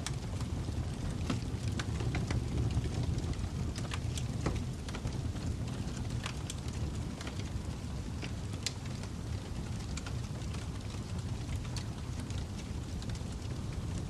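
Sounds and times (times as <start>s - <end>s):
fire crackling: 0.0s - 14.0s
low rumble of flames: 0.0s - 14.0s.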